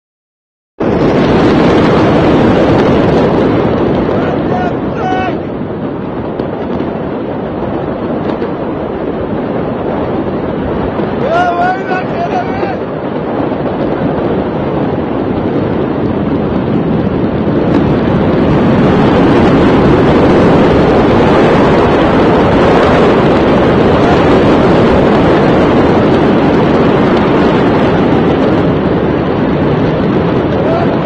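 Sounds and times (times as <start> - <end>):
wind buffeting microphone: 0.8 - 31.0.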